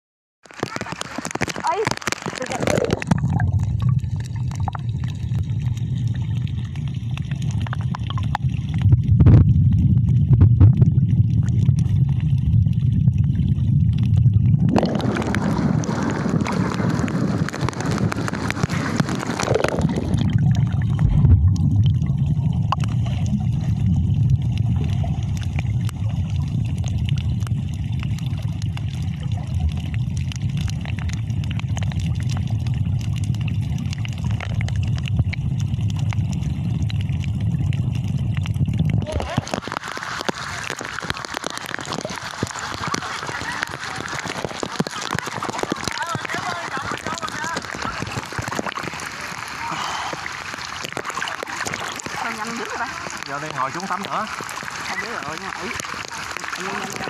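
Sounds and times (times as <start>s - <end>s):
muffled underwater rumble and gurgle: 0.4s - 57.0s
water splashing: 0.4s - 57.0s.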